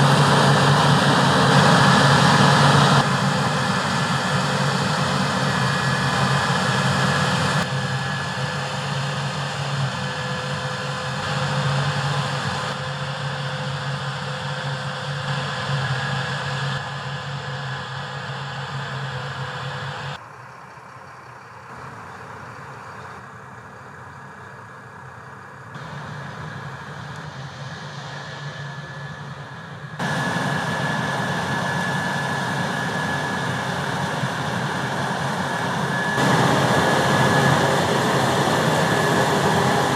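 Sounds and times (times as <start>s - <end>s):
high steady whine: 0.0s - 20.2s, 23.0s - 39.9s
diesel engines droning: 0.0s - 39.9s.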